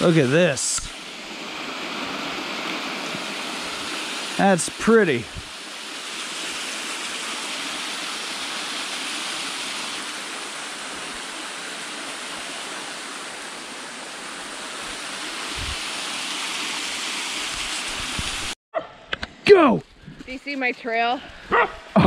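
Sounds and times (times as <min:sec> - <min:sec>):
small waterfall splashing: 0:00.0 - 0:18.6.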